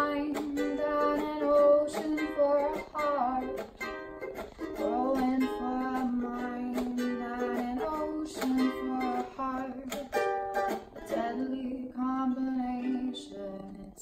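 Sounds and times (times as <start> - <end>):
ukulele strumming chords: 0.0 - 14.0.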